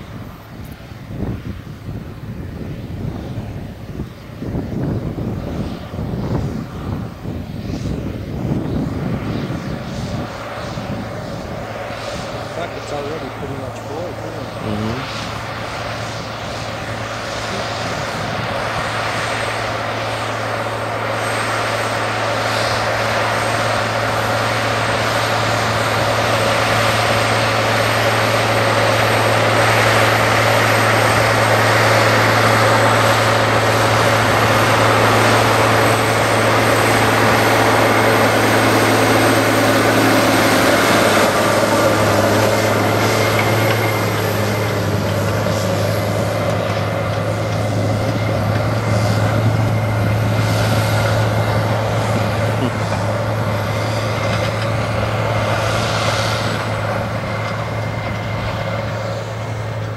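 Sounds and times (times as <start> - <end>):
tractor diesel engine under load: 0.0 - 59.9
scraper rushing through dry soil: 9.6 - 59.9.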